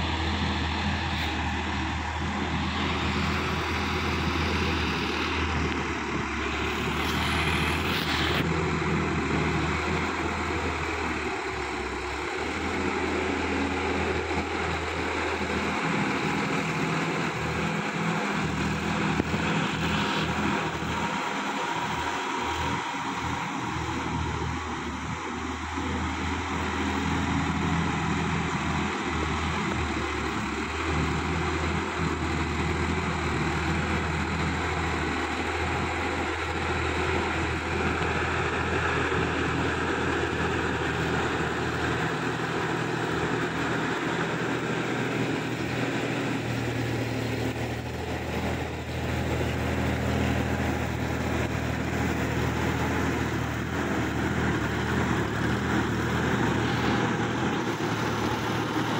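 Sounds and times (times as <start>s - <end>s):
tiller churning wet mud: 0.0s - 58.9s
tractor diesel engine running: 0.0s - 58.9s.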